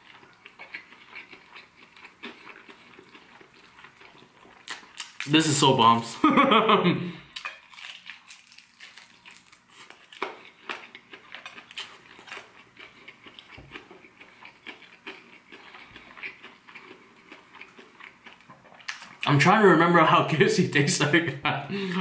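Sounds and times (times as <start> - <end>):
chewing crispy fried chicken: 0.0 - 5.7, 7.3 - 19.4
crackles of crunchy crust: 0.0 - 6.1, 7.3 - 19.4.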